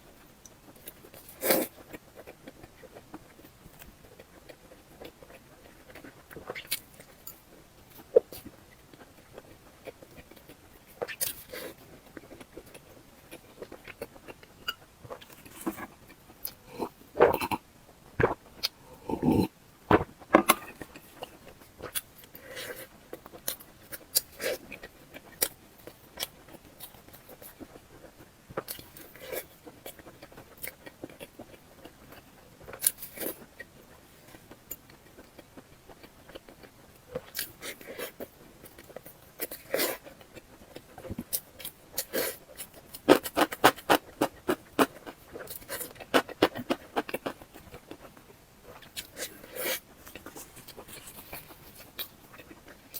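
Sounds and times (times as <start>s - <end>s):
chewing with mouth clicks: 0.1s - 17.6s, 18.2s - 52.9s.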